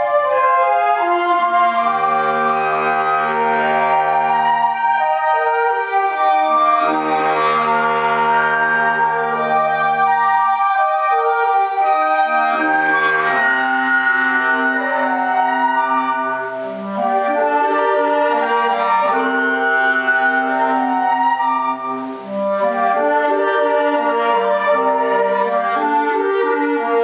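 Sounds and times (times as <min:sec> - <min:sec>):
woodwind ensemble playing chords: 0:00.0 - 0:27.0.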